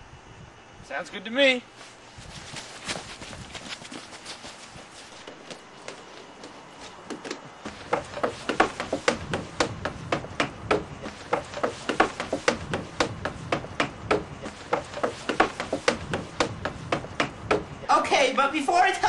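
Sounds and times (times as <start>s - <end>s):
footsteps on wooden stairs: 2.3s - 17.7s.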